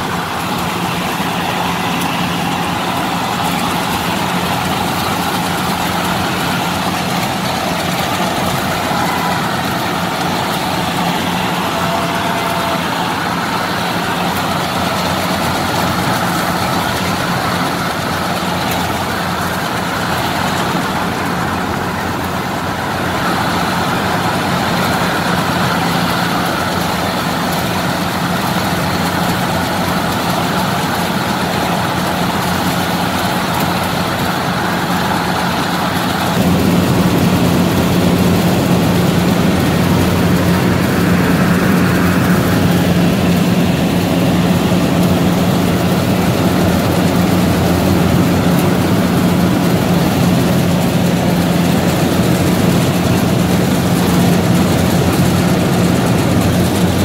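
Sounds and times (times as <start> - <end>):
diesel engine hum: 0.0 - 57.0
harvesting machinery rattling: 0.0 - 57.0.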